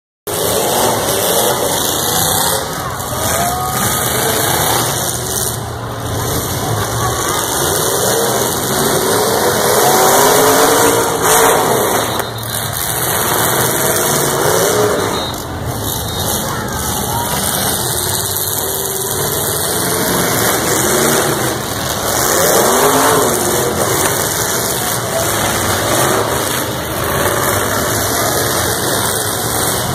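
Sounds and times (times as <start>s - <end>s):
truck engines revving: 0.3s - 29.9s.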